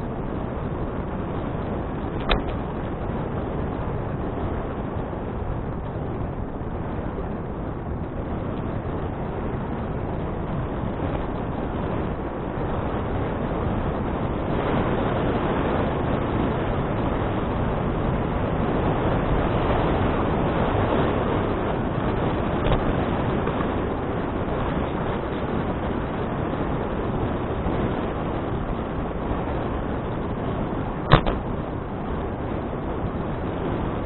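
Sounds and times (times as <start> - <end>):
wind noise: 0.0 - 34.0.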